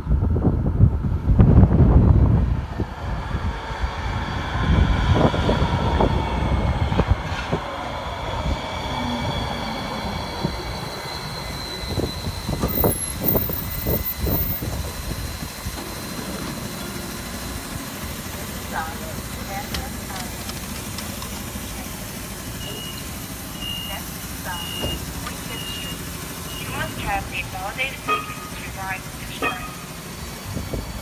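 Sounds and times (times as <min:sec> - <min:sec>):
light-rail car rumble: 0:00.0 - 0:31.0
motor and brake whine: 0:00.0 - 0:31.0.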